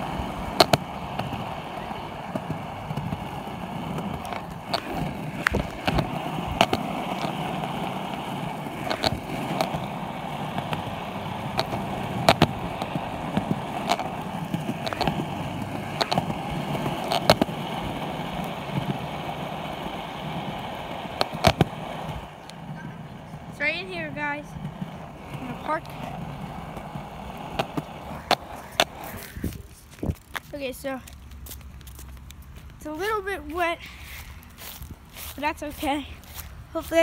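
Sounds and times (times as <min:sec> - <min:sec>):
skateboard clacks: 0:00.0 - 0:30.5
skateboard wheels rumbling on concrete: 0:00.0 - 0:37.0.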